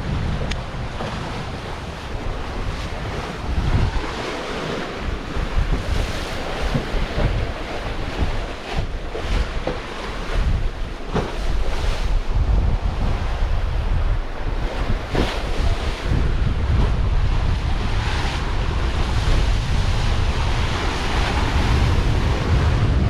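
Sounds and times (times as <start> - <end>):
waves rushing: 0.0 - 23.0
wind buffeting microphone: 0.0 - 23.0.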